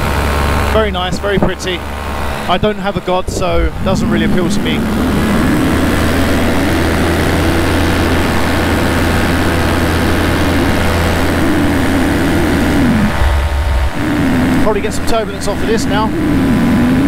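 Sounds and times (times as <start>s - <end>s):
paramotor engine and propeller: 0.0s - 17.0s
wind noise: 0.0s - 17.0s.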